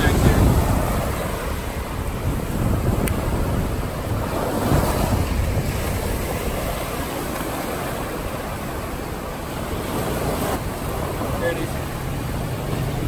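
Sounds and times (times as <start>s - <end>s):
surf washing up beach: 0.0s - 13.0s
wind buffeting microphone: 0.0s - 13.0s.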